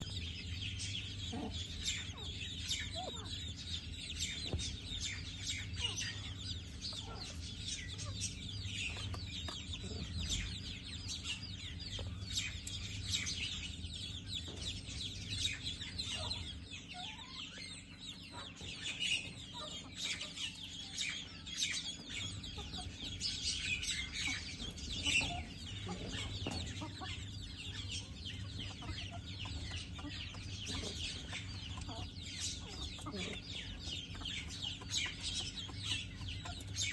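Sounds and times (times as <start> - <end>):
birds chirping and squawking: 0.0 - 36.9
low steady hum: 0.0 - 36.9.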